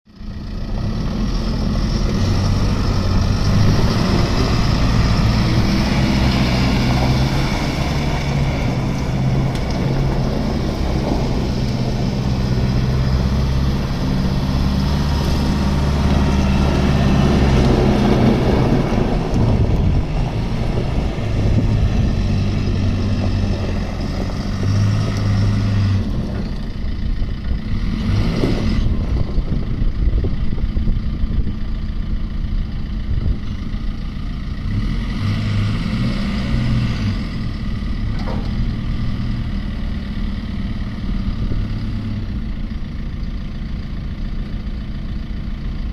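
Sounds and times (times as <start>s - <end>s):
diesel engine running: 0.1s - 45.9s.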